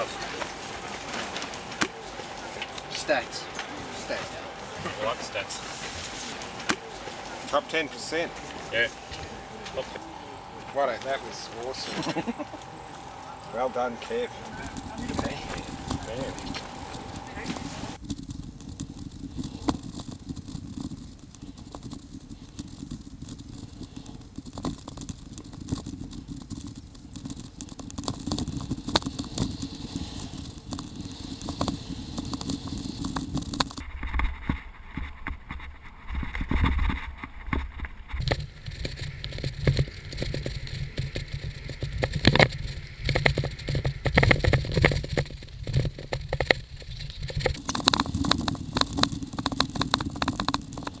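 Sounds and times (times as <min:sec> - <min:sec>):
bike rattling and knocking: 0:00.0 - 0:51.0
tyre noise: 0:00.0 - 0:51.0
wind noise: 0:00.0 - 0:51.0.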